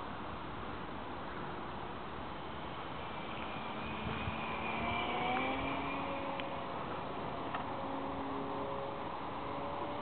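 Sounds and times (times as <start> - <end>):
wind-like hiss: 0.0 - 10.0
model aeroplane motor whine: 1.9 - 10.0.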